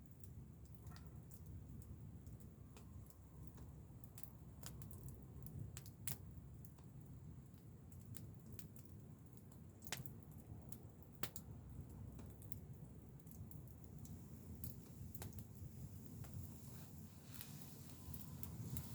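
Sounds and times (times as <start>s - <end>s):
wood fire crackling and popping: 0.0s - 18.9s.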